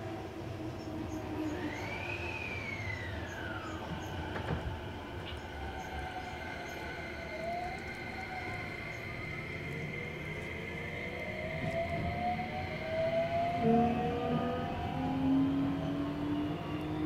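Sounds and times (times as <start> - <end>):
train wheels rumbling on rail: 0.0 - 17.0
electric motor whine: 1.3 - 4.5, 5.8 - 17.0.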